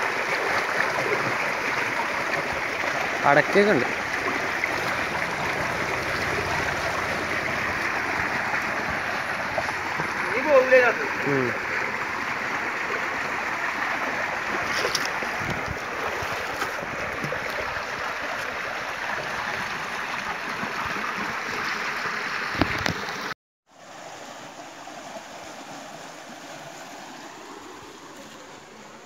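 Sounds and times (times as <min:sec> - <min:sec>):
stream water gushing: 0:00.0 - 0:29.0.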